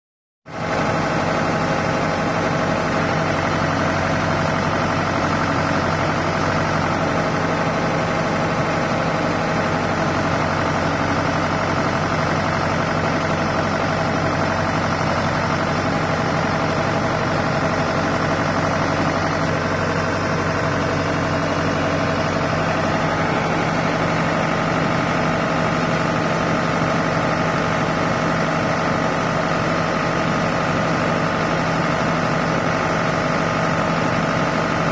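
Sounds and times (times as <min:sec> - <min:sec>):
diesel engine running: 0:00.5 - 0:34.9.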